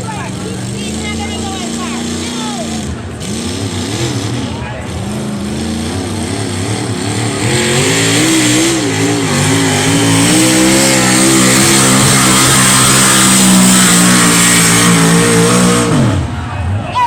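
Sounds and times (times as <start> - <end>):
tractor engine under load: 0.0 - 16.9.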